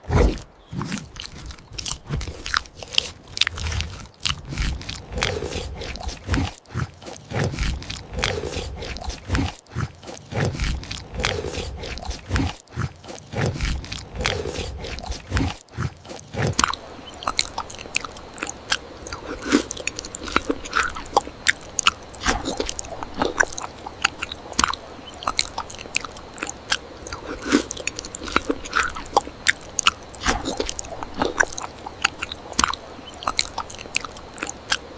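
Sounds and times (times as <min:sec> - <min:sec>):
biting and chewing food: 0:00.0 - 0:34.9.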